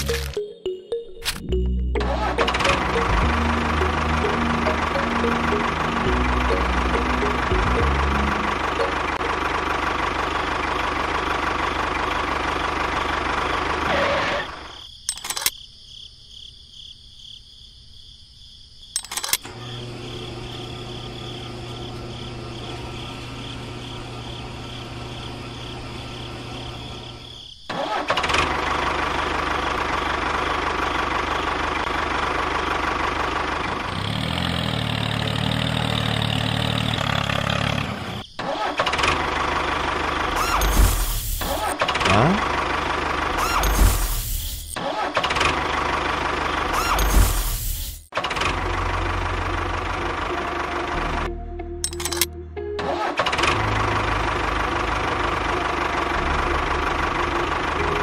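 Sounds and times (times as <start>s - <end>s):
tractor engine running: 0.0s - 15.5s, 19.0s - 58.0s.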